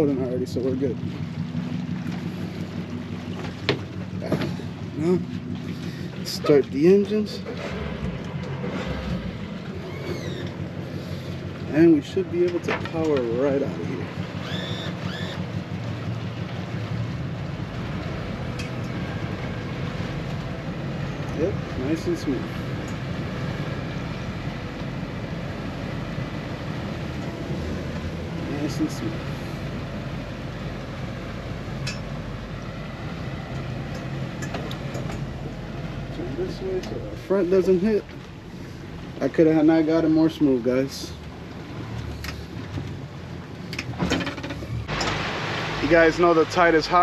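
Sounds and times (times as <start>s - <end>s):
outboard motors rumbling: 0.0s - 47.0s.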